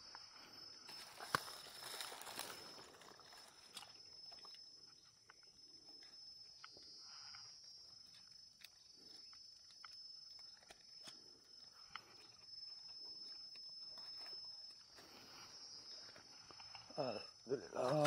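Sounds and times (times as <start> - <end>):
thin high whine: 0.0 - 18.0.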